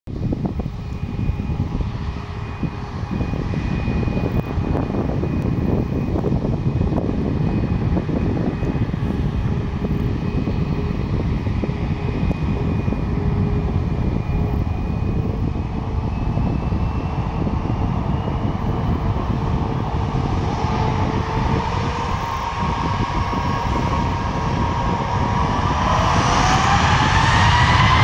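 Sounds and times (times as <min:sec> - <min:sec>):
jet engines rumbling with whine: 0:00.1 - 0:28.0.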